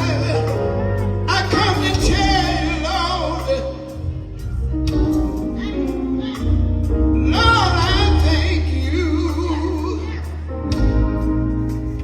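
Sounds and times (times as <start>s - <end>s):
person singing: 0.0s - 11.3s
band playing sustained chords: 0.0s - 12.0s.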